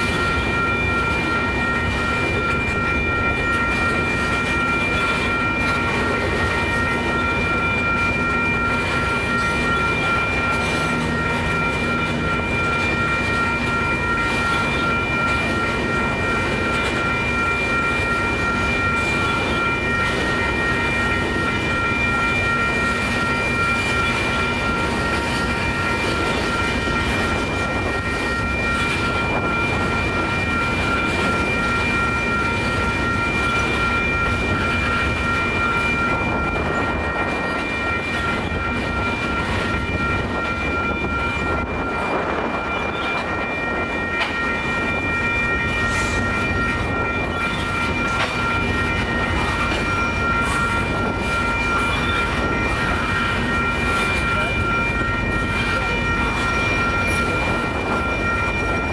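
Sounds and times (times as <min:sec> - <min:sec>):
crossing warning bell ringing: 0:00.0 - 0:58.9.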